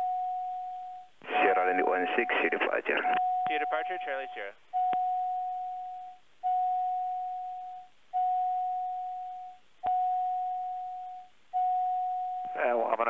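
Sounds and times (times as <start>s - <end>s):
electronic warning tone: 0.0s - 12.8s.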